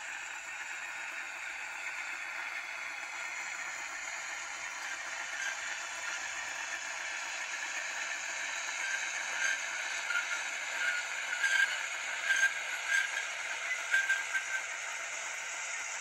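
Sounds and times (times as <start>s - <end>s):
tinny model diesel engine sound: 0.0s - 16.0s.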